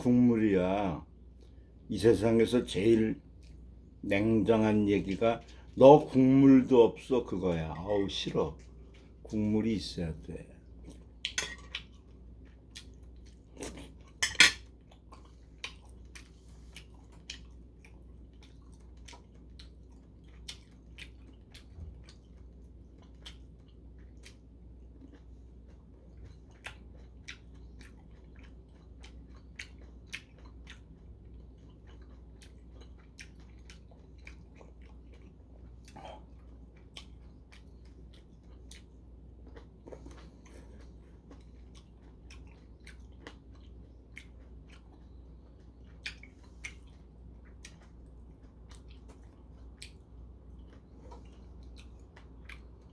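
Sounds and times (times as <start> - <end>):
soft chewing: 0.1 - 52.9.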